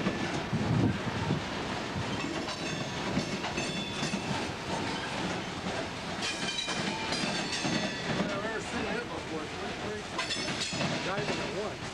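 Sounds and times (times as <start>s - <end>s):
train wheels clattering on rails: 0.0s - 11.9s.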